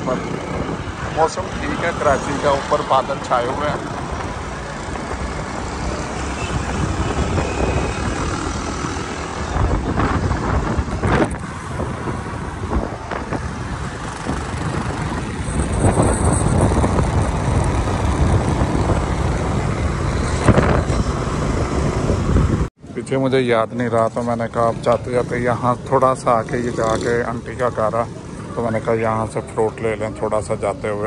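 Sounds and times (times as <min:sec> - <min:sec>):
road and traffic noise: 0:00.0 - 0:31.0.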